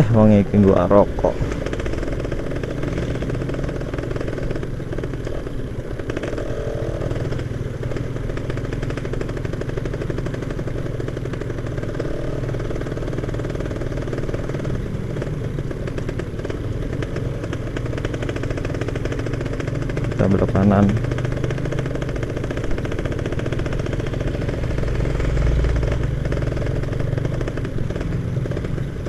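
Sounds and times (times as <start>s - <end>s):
two-stroke motorcycle engine: 0.0s - 29.0s.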